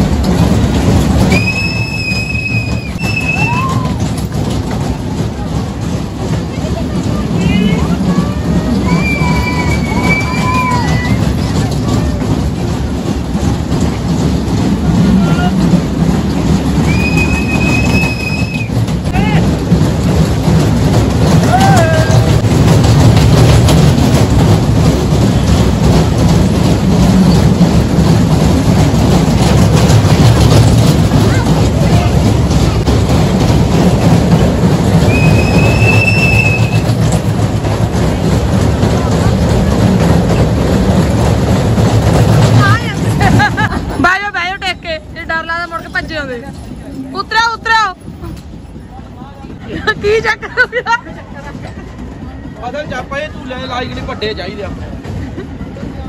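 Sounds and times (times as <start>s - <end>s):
fairground low rumble: 0.0s - 56.0s.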